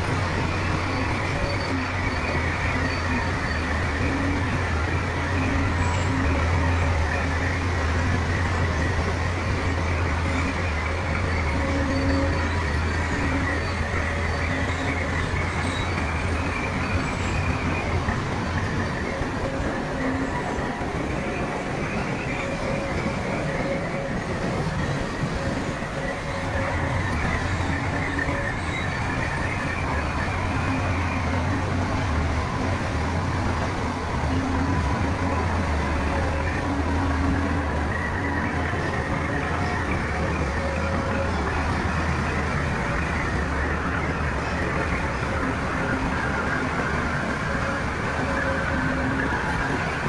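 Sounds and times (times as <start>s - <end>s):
bulldozer diesel engine droning: 0.0s - 50.0s
steel tracks squealing and grinding: 0.0s - 50.0s.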